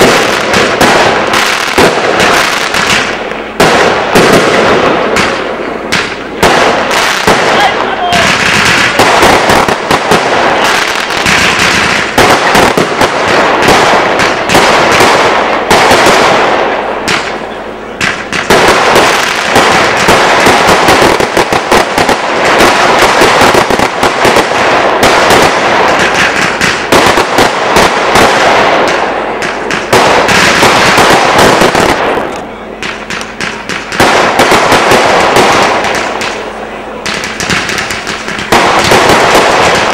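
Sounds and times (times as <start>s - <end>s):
fireworks popping and banging: 0.0s - 39.9s.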